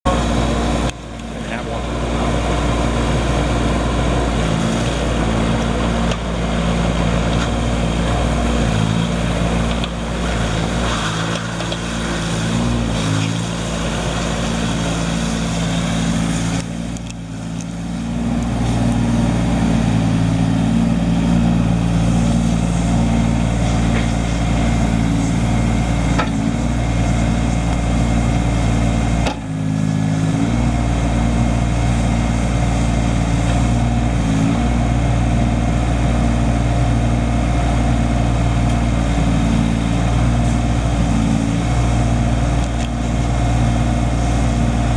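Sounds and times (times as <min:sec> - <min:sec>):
diesel excavator engine running: 0:00.0 - 0:44.9.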